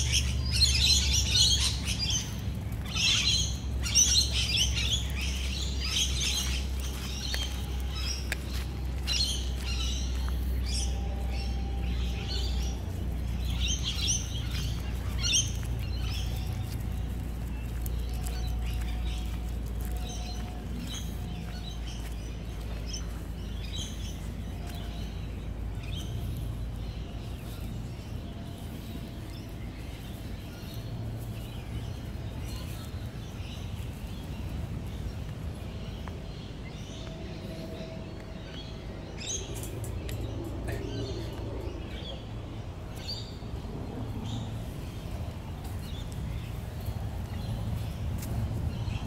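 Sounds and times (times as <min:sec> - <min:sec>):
birds chirping: 0:00.0 - 0:49.0
low rumble: 0:00.0 - 0:49.0.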